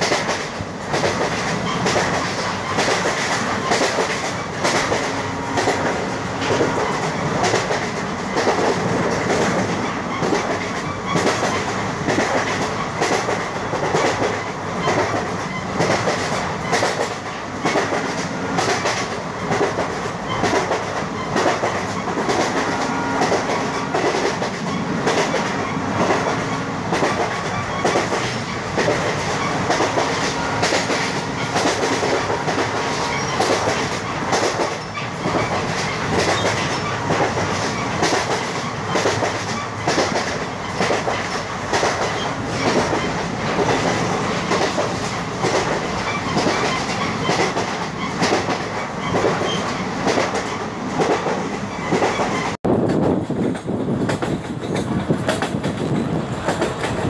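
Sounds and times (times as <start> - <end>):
train running rumble: 0.0 - 57.0
train wheels clattering over rail joints: 0.0 - 57.0.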